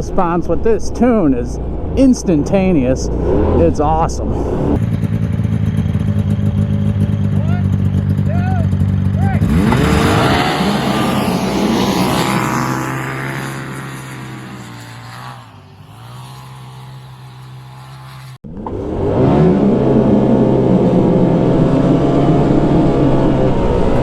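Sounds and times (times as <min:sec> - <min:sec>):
turbo engine running hard: 0:04.5 - 0:24.0.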